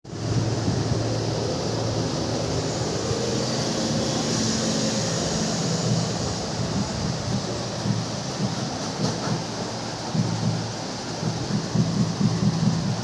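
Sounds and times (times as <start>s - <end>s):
motorcycle engine running: 0.2s - 13.0s.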